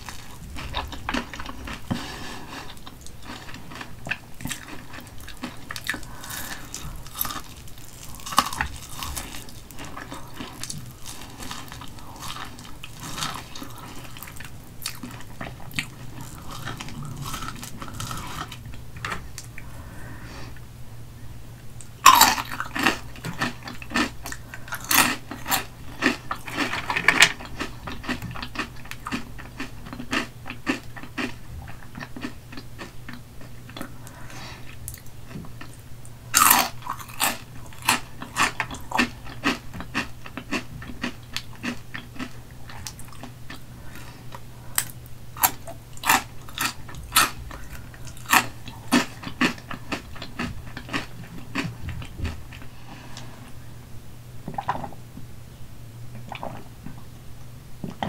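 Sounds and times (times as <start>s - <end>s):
crunching and chewing: 0.0s - 20.2s, 21.8s - 53.6s.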